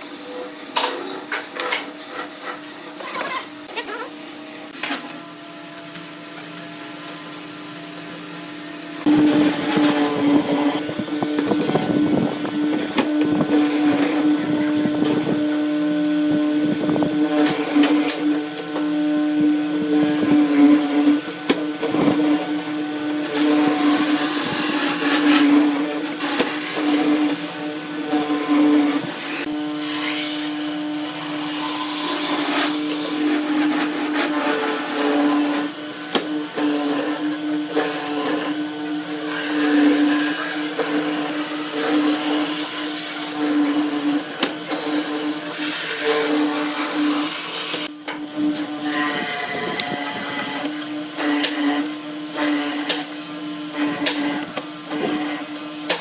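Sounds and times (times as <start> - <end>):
power tool cutting wood: 0.0 - 56.0.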